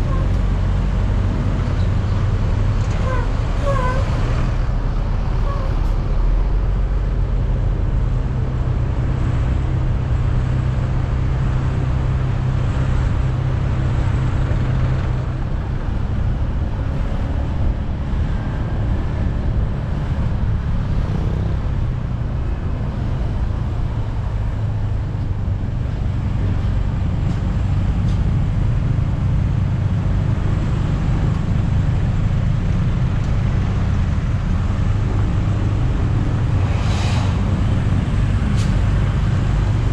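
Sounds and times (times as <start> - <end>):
traffic engine hum: 0.0 - 39.9.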